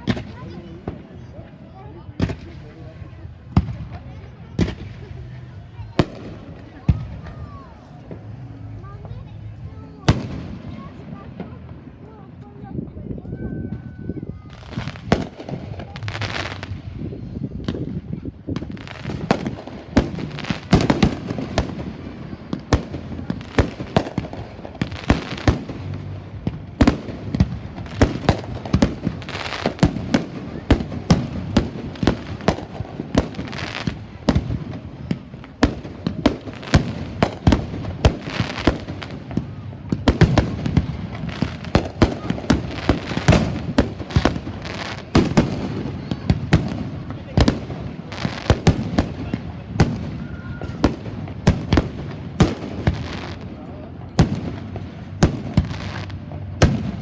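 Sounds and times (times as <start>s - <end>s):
fireworks bangs: 0.0s - 12.8s, 13.7s - 57.0s
continuous low rumble: 0.2s - 57.0s.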